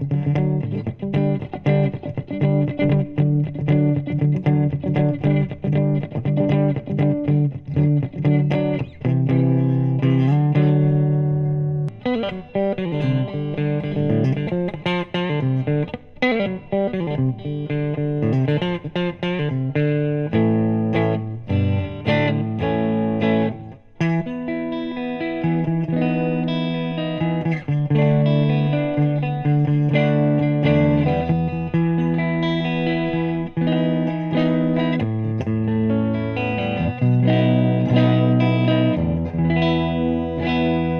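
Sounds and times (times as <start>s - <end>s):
clean electric guitar blues licks: 0.0s - 40.9s.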